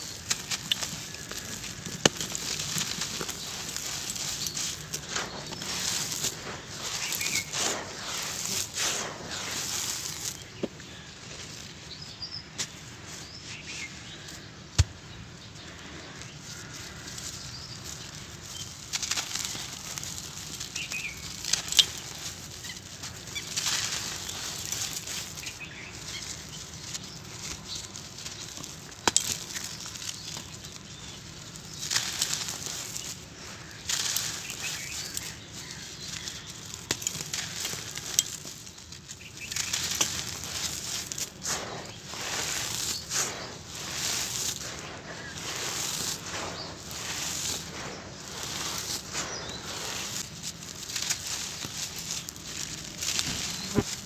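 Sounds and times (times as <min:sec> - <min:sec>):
sharp cracks of sand clumps: 0:00.0 - 0:11.6, 0:14.1 - 0:54.0
sand crunching between hands: 0:00.0 - 0:54.0.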